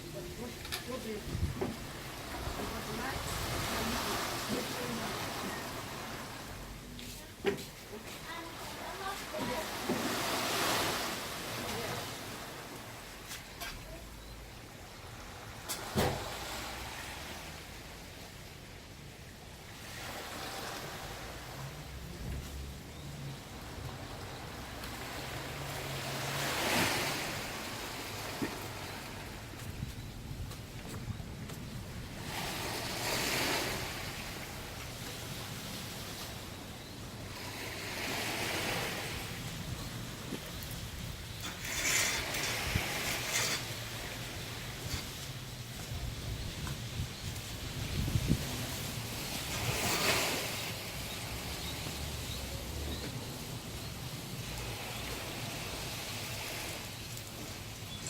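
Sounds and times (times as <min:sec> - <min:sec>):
surf washing on beach: 0:00.0 - 0:30.5, 0:31.5 - 0:58.0.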